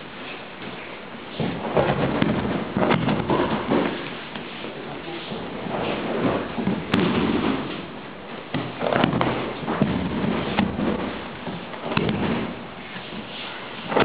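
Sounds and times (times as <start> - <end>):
noisy room background: 0.0 - 14.0
bodies thudding on mats: 1.3 - 4.6, 5.5 - 14.0.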